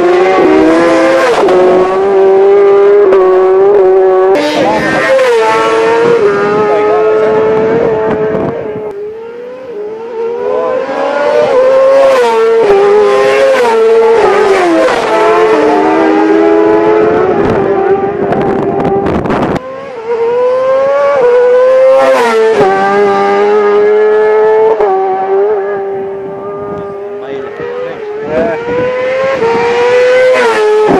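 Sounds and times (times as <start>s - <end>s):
racing motorcycles passing: 0.0s - 30.9s.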